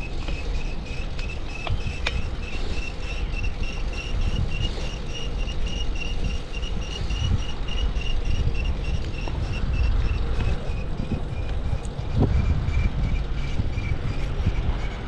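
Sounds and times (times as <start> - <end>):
bicycle chain squeaking: 0.0 - 15.0
low wind: 0.0 - 15.0
road rumble: 0.0 - 15.0.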